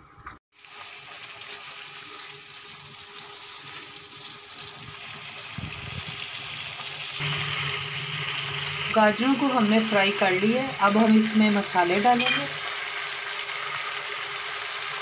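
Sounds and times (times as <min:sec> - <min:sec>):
carrots sizzling in a wok: 0:00.5 - 0:15.0.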